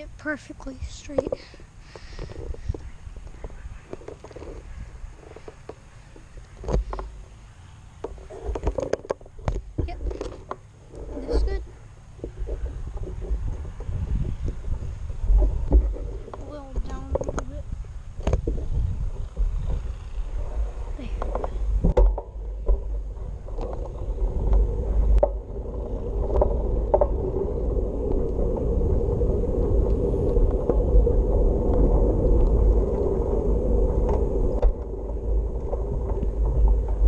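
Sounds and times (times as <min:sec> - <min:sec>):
wind buffeting microphone: 0:00.0 - 0:07.2, 0:08.1 - 0:37.0
tyres rolling on asphalt: 0:00.0 - 0:37.0.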